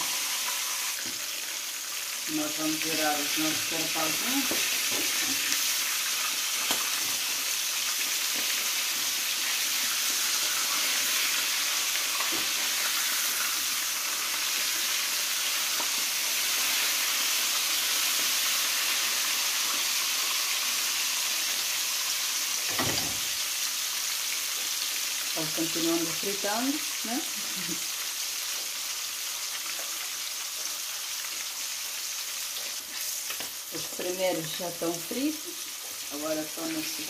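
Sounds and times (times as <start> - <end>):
fish sizzling in frying pan: 0.0 - 37.0.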